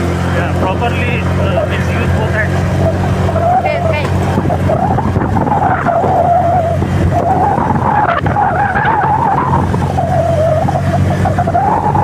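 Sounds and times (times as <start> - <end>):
motorbike engine running: 0.0 - 12.0
road and wind noise: 0.0 - 12.0.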